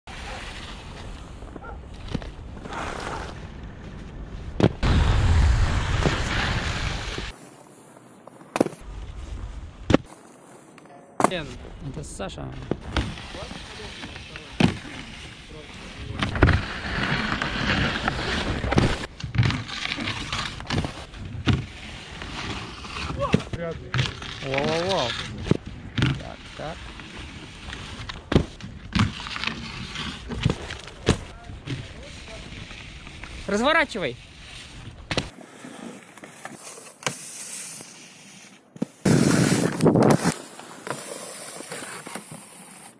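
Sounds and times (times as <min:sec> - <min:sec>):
skis scraping over snow: 0:00.1 - 0:42.9.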